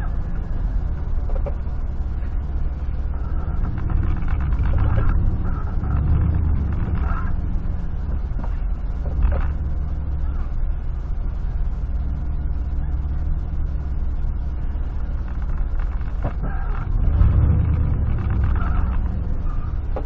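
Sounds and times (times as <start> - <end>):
engine and road rumble inside a cab: 0.0 - 20.0.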